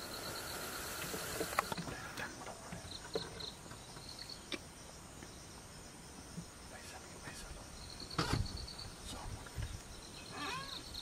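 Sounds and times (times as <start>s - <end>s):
faint hiss: 0.0s - 11.0s
insects chirping: 0.0s - 11.0s.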